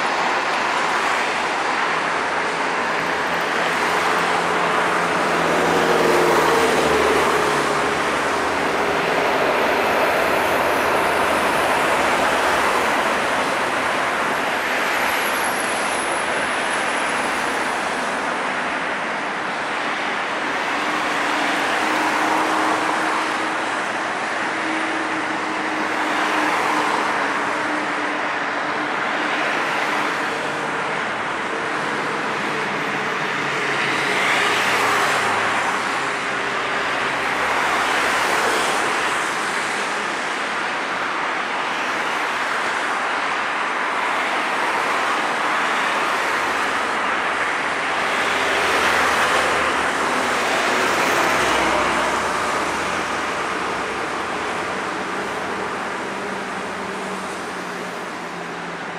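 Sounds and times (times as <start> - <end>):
jet engines rushing roar: 0.0 - 58.9.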